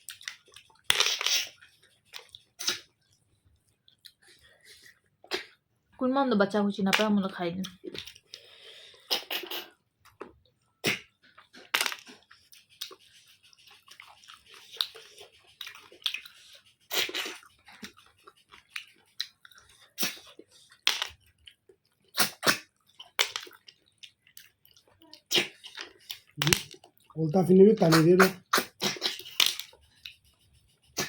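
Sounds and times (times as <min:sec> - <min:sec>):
wet chewing: 0:00.0 - 0:05.6, 0:07.0 - 0:27.2, 0:27.8 - 0:31.0.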